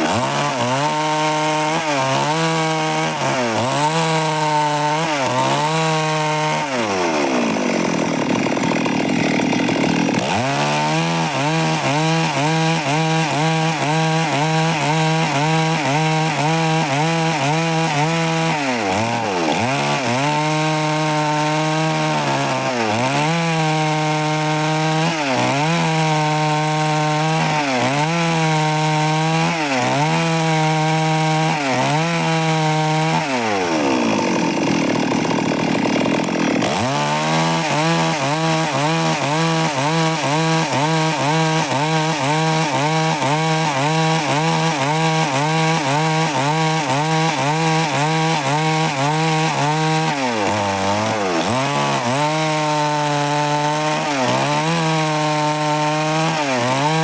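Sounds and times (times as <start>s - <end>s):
chainsaw sawing through timber: 0.0s - 57.0s.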